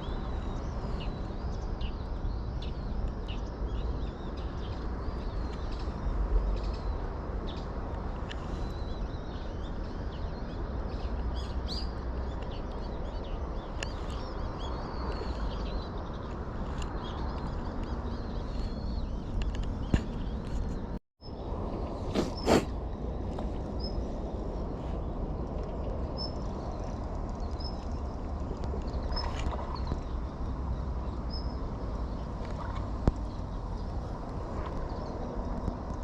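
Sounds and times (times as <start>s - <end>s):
small birds chirping: 0.0s - 24.2s, 24.8s - 36.0s
low outdoor rumble: 0.0s - 36.0s.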